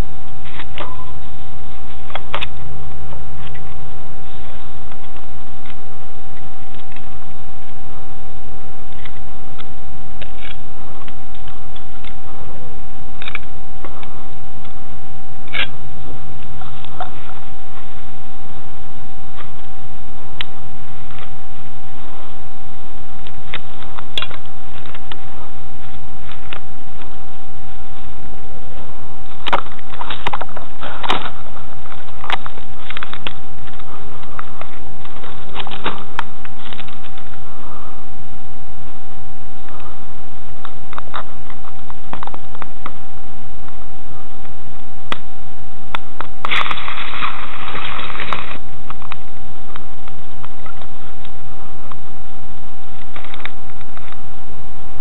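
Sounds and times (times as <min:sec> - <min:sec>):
steady high tone: 0:00.0 - 0:55.0
steady high-pitched hum: 0:00.0 - 0:55.0.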